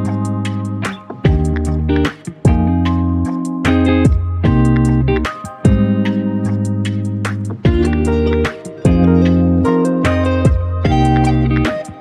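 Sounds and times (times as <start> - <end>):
plucked guitar: 0.0 - 12.0.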